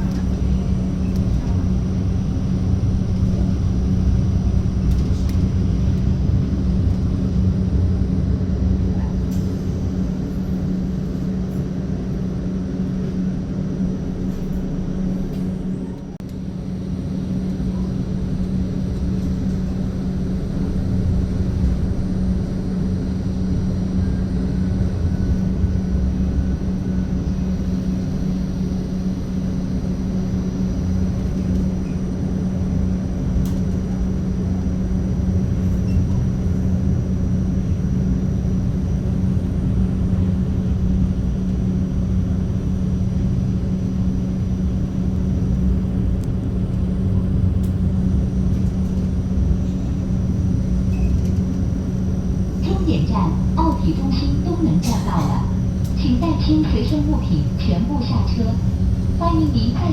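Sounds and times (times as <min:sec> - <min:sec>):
constant hum: 0:00.0 - 0:59.9
tram low rumble: 0:00.0 - 0:59.9.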